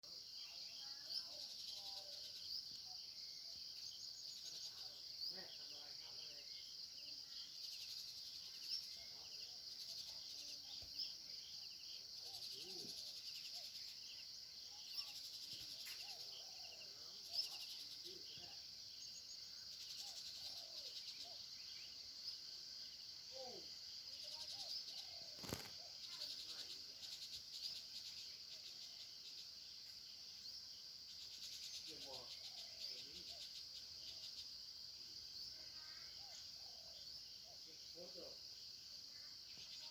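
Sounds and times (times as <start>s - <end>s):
insects chirring: 0.0s - 39.9s
faint bird calls: 0.4s - 29.5s, 31.1s - 34.5s, 35.5s - 38.4s.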